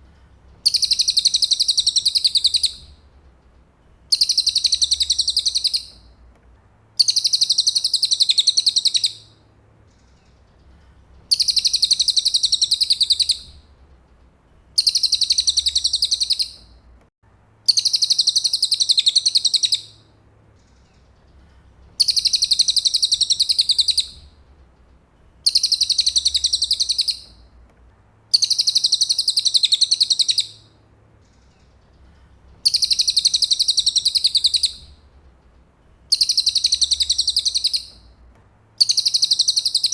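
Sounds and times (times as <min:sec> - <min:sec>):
bird trilling song: 0:00.4 - 0:03.0, 0:04.1 - 0:06.2, 0:07.0 - 0:13.7, 0:14.7 - 0:16.8, 0:17.7 - 0:24.4, 0:25.2 - 0:27.5, 0:28.3 - 0:35.1, 0:36.0 - 0:38.2, 0:38.8 - 0:39.9.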